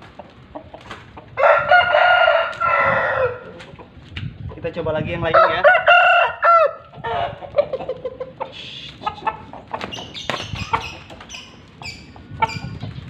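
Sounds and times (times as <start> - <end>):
rooster clucking and squawking: 0.0 - 4.0, 5.4 - 13.0.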